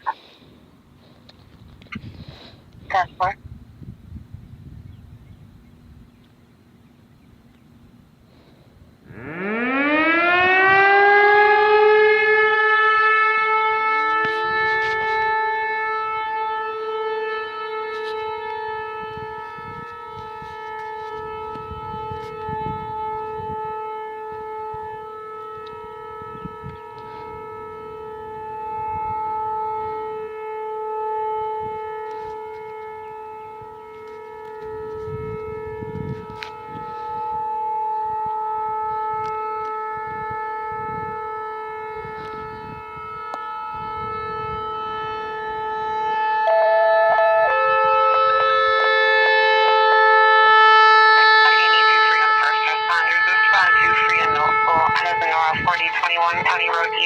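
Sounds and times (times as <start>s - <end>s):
tornado siren wailing: 0.0s - 57.0s.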